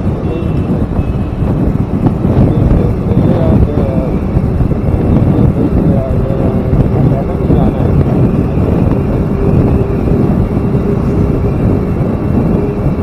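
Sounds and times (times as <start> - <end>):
motorcycle engine: 0.0 - 13.0
road noise: 0.0 - 13.0
wind noise on microphone: 0.0 - 13.0.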